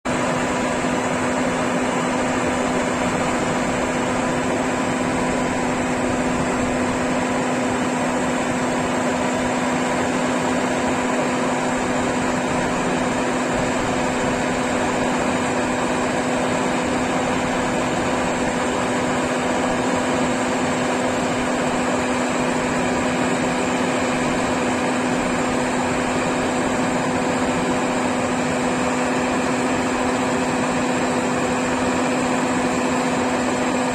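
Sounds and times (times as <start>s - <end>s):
combine harvester running: 0.1s - 33.9s.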